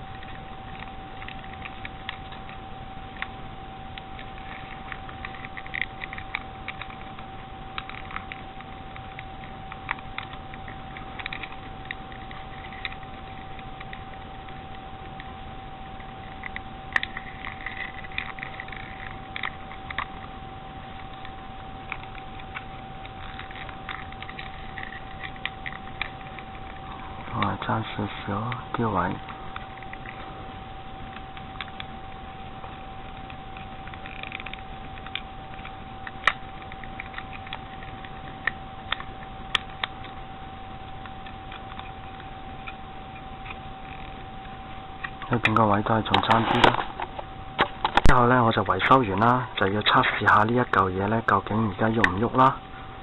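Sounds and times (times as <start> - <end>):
faint high hum: 0.0 - 53.0.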